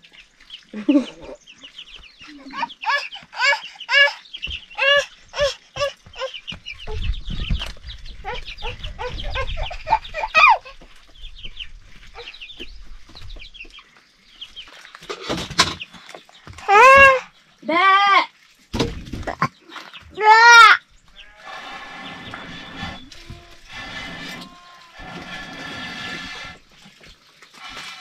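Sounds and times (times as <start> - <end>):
chickens clucking: 0.0 - 17.2, 21.1 - 28.0.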